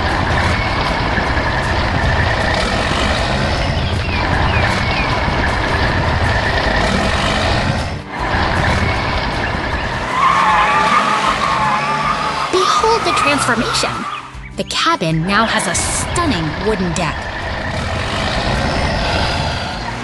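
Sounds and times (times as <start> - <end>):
construction machinery engines running: 0.0 - 20.0.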